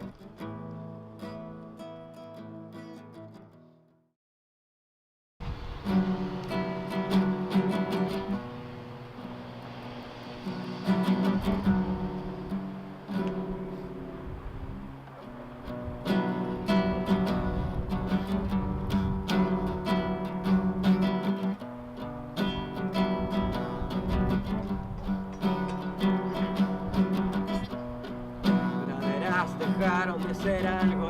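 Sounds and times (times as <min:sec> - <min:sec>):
acoustic guitar strumming chords: 0:00.0 - 0:03.9, 0:05.4 - 0:31.0.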